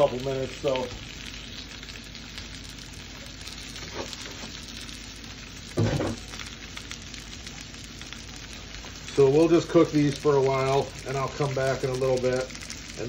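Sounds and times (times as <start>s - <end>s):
banana peel sizzling on griddle: 0.0s - 13.0s.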